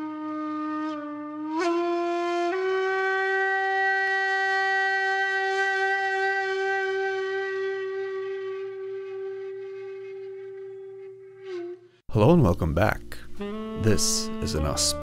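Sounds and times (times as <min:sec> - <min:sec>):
wind instrument long note: 0:00.0 - 0:12.4, 0:13.3 - 0:15.0.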